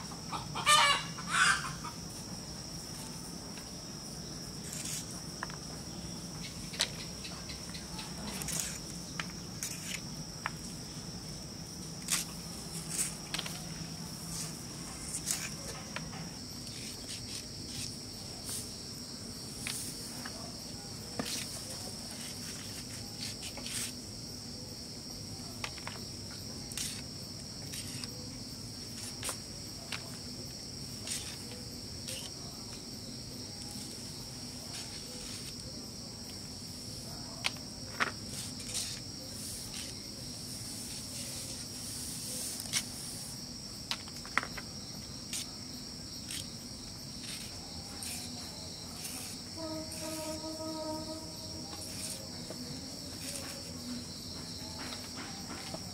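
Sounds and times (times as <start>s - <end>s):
crickets chirring: 0.0s - 55.9s.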